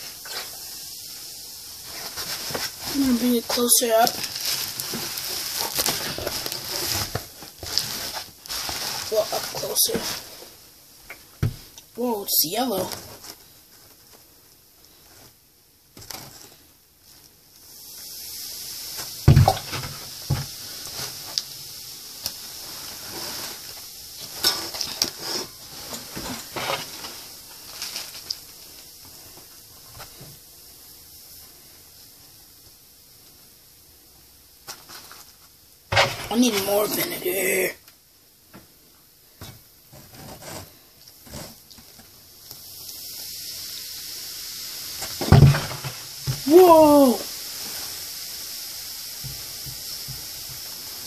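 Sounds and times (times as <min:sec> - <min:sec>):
faint steady hiss: 0:00.0 - 0:51.0.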